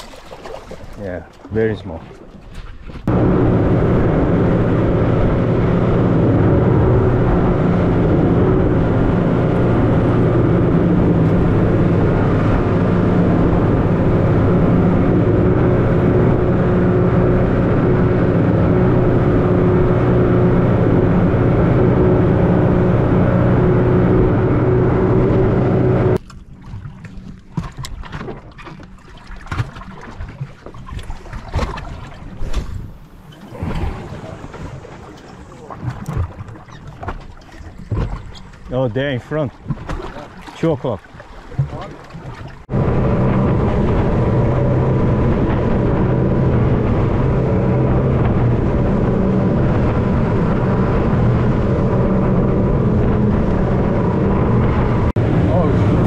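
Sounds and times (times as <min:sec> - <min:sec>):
motorboat engine running: 0:00.0 - 0:56.0
water noise: 0:00.0 - 0:56.0
wind: 0:00.0 - 0:56.0.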